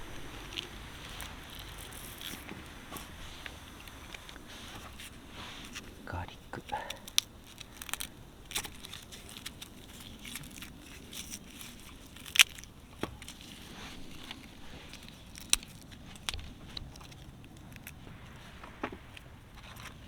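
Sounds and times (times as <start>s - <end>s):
garlic skin crackling: 0.0s - 19.2s.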